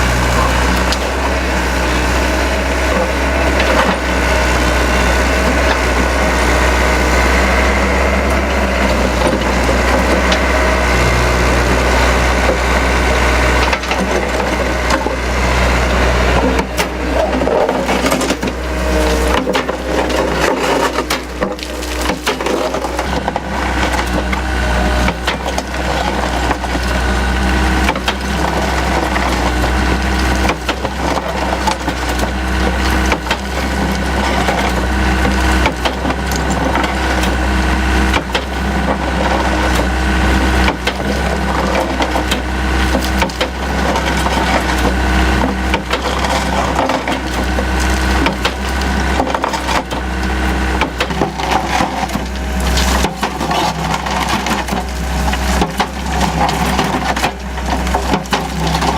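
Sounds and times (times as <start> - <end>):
concrete cracking in crusher bucket: 0.0 - 58.9
diesel engine under load: 0.0 - 58.9.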